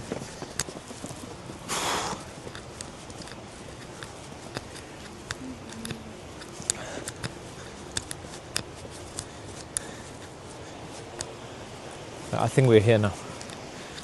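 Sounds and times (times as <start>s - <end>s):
footsteps on forest trail: 0.0s - 14.0s
short rustling hiss: 1.3s - 14.0s.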